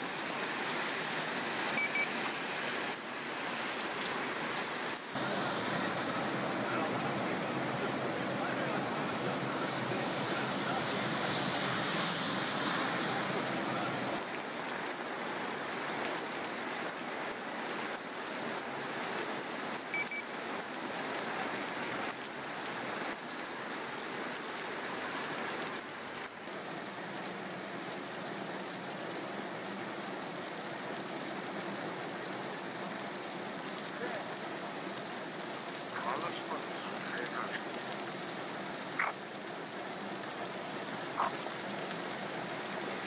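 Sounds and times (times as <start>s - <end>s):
heavy rain on a wet street: 0.0s - 43.0s.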